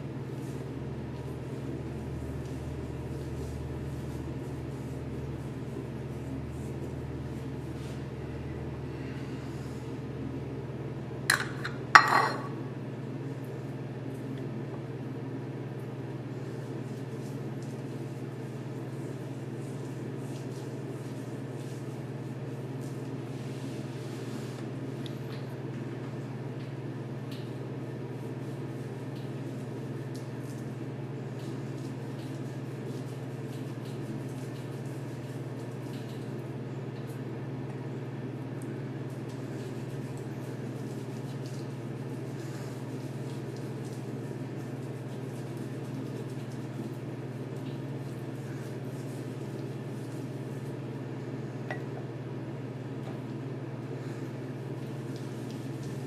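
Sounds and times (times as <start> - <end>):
steady low hum: 0.0 - 25.6, 36.4 - 56.0.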